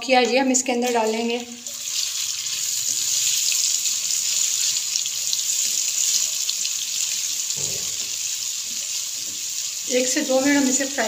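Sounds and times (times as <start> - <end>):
onions sizzling in hot oil: 0.4 - 11.0.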